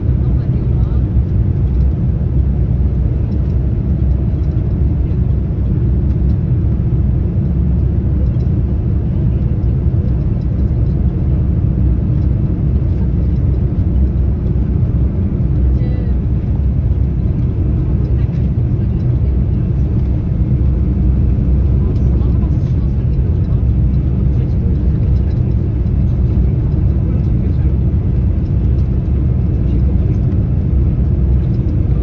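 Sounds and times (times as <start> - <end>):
aircraft cabin engine rumble: 0.0 - 32.0.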